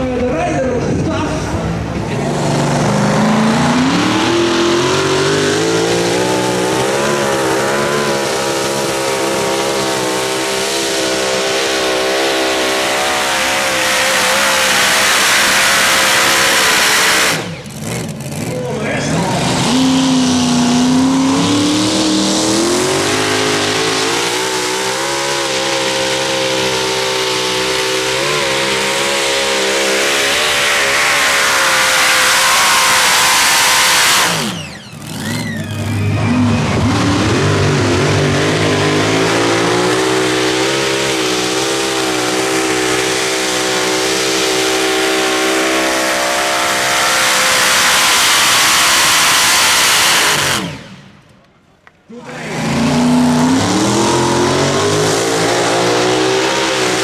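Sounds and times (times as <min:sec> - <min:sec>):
tractor engine at full throttle: 0:00.0 - 0:57.0.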